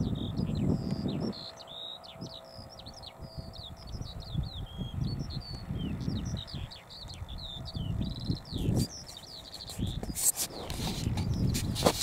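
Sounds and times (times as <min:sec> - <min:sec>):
skylark singing: 0:00.0 - 0:12.0.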